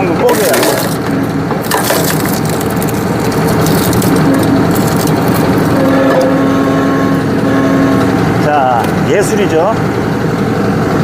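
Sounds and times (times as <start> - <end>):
steady whine: 0.0 - 11.0
tractor engine running: 0.0 - 11.0.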